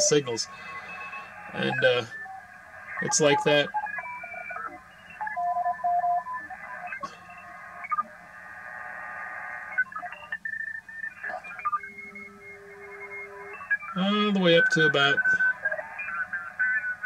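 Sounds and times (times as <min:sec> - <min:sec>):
radio band hiss: 0:00.0 - 0:05.2, 0:06.4 - 0:17.0.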